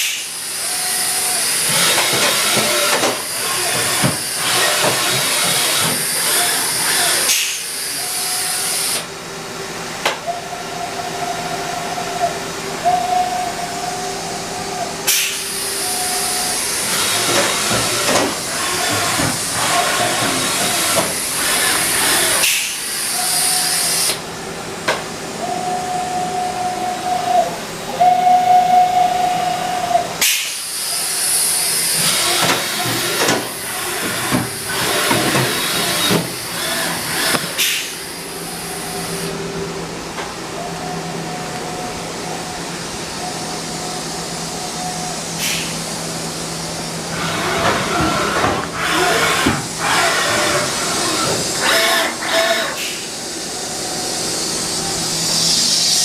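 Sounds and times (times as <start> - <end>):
machining center loud hiss: 0.0 - 56.0.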